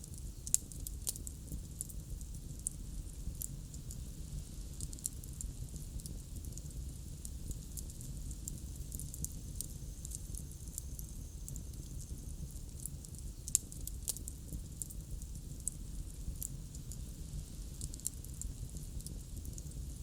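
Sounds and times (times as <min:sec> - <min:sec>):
bonfire crackling: 0:00.0 - 0:20.0
loud fire pops: 0:00.0 - 0:20.0.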